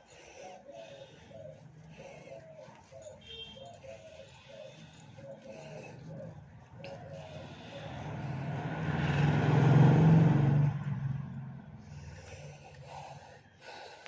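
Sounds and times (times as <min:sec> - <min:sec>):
vehicle passing by: 0:00.7 - 0:13.8.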